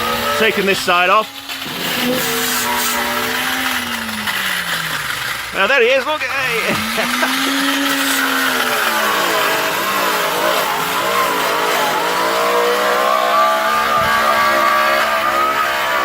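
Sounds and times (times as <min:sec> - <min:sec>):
power cutter cutting steel: 0:00.0 - 0:16.0.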